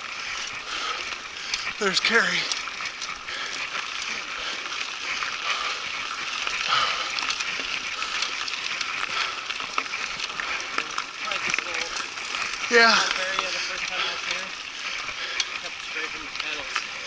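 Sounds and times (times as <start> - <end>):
bike rattling and clicking: 0.0 - 17.0
bike tyres crunching over gravel: 0.0 - 17.0.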